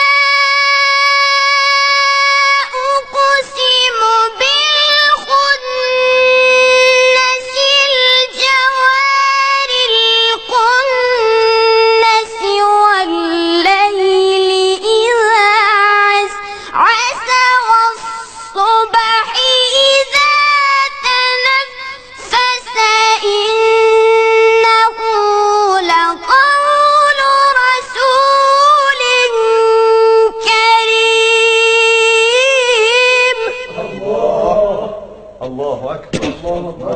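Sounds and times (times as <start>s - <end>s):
child chanting recitation: 0.0s - 34.8s.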